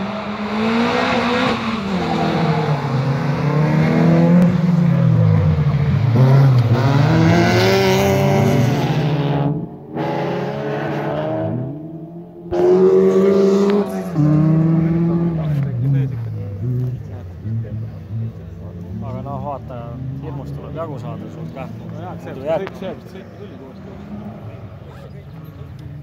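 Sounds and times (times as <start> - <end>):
racing car engines revving: 0.0 - 26.0.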